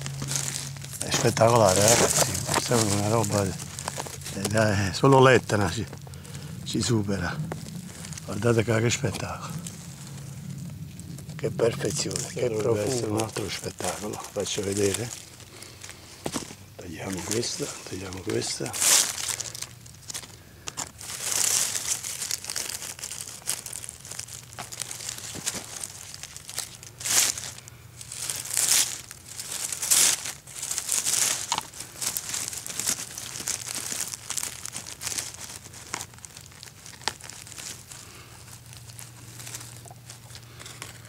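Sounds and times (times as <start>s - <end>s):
pine needles and leaves rustling: 0.0s - 41.0s.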